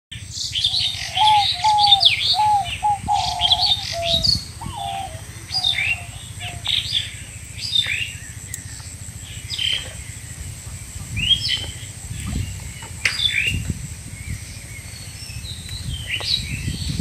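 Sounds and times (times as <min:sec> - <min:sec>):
low repeated bird call: 0:00.2 - 0:17.0.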